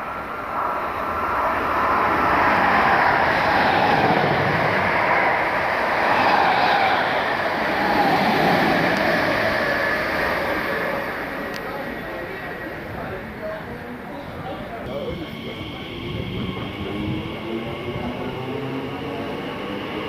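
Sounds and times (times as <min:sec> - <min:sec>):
train wheels rolling on rail: 0:00.0 - 0:20.0.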